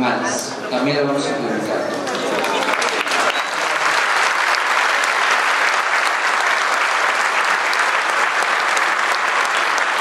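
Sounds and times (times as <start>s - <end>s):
large audience clapping: 1.8s - 10.0s.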